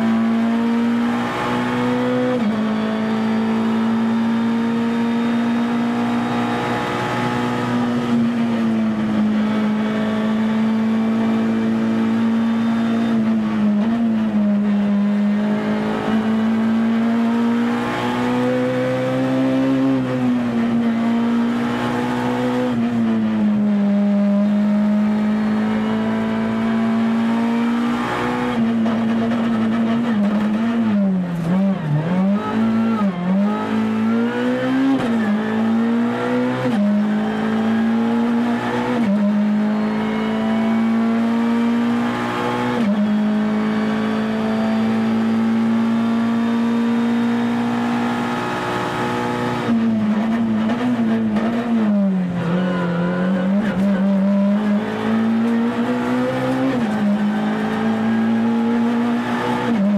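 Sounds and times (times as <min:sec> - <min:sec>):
rally car engine at high revs: 0:00.0 - 0:59.9.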